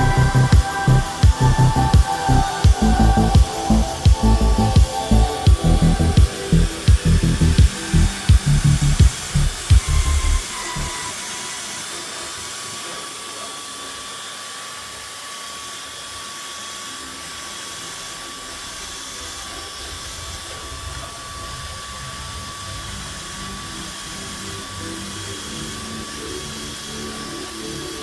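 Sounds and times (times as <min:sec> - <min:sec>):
small motor hiss and whine: 0:00.0 - 0:28.0.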